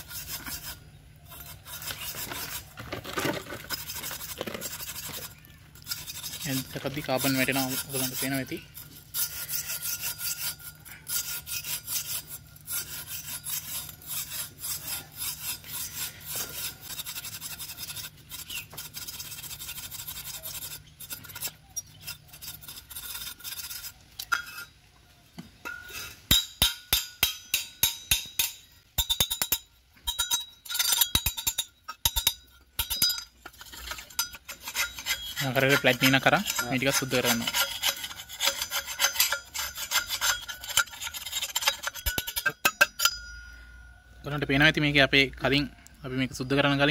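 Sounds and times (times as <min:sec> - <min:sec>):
steel cable scraping metal tube: 0:00.0 - 0:24.8, 0:25.6 - 0:45.4.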